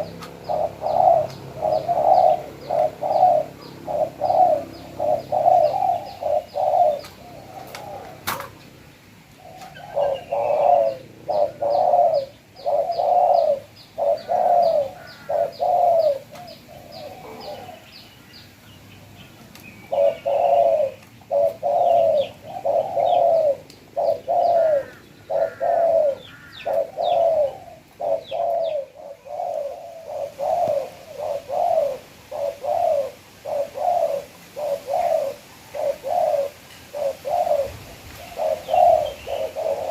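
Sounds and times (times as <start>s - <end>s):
dove cooing: 0.0s - 18.3s, 19.8s - 39.9s.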